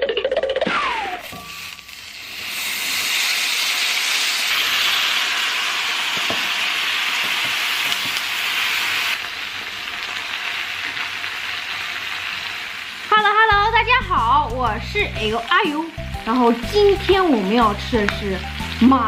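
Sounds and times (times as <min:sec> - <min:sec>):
food sizzling in a pan: 0:00.8 - 0:19.0.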